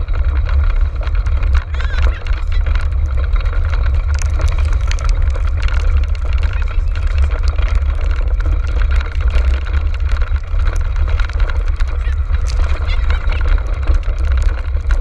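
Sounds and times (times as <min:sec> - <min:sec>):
cart rattling and clicking: 0:00.0 - 0:15.0
wind rumble on microphone: 0:00.0 - 0:15.0.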